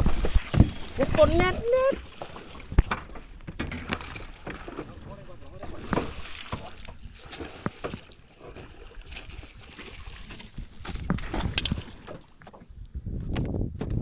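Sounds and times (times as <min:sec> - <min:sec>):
knocks and clicks against boat: 0:00.0 - 0:09.2, 0:09.8 - 0:14.0
water sloshing: 0:00.0 - 0:12.8.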